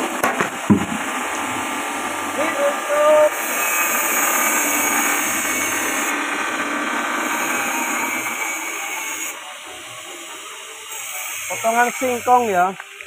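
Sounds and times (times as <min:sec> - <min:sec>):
feed cutter mechanical whine: 0:00.0 - 0:13.0.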